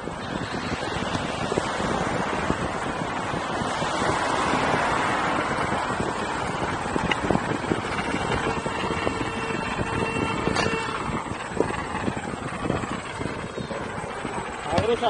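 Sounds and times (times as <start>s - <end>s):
low irregular thumps: 0.0s - 15.0s
rolling road noise: 0.0s - 15.0s
wind on microphone: 0.0s - 15.0s.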